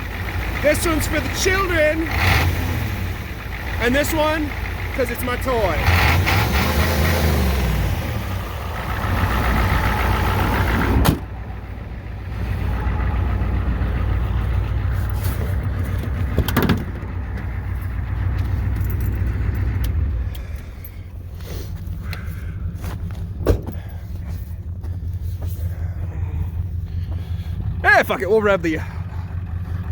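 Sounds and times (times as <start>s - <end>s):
vehicle engine idling: 0.0s - 29.9s.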